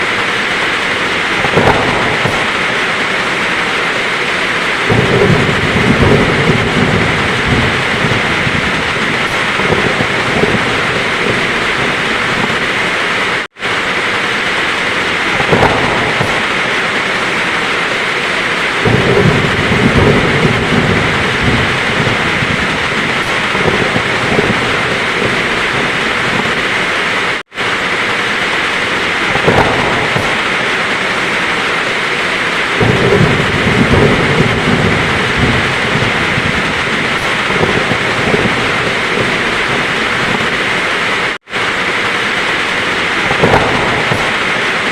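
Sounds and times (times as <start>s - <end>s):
heavy rain: 0.0s - 44.9s
low rolling thunder: 0.0s - 44.9s.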